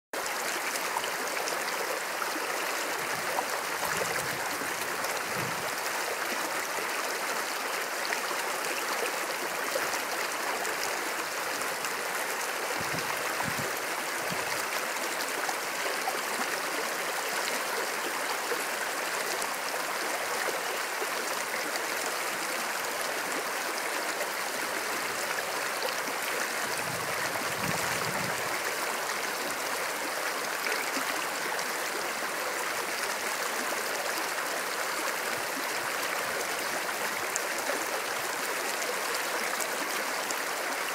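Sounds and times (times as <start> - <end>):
creek rushing over rocks: 0.2 - 40.9.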